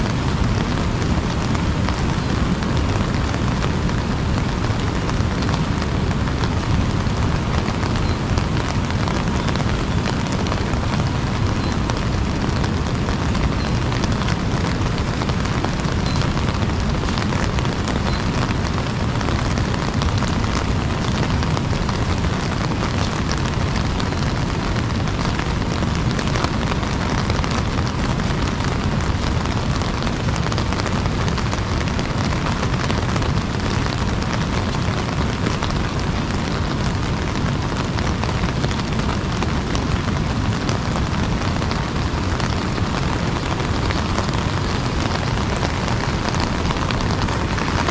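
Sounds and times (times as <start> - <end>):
heavy rain on an umbrella: 0.0 - 47.9.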